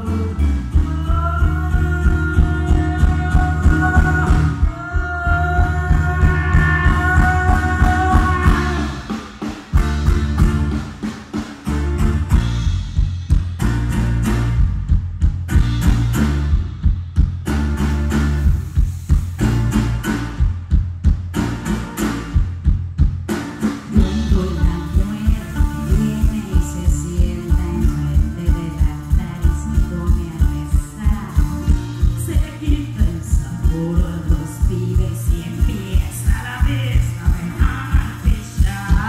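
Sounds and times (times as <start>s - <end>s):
live band music: 0.0s - 39.0s
drum and percussion hits: 0.6s - 39.0s.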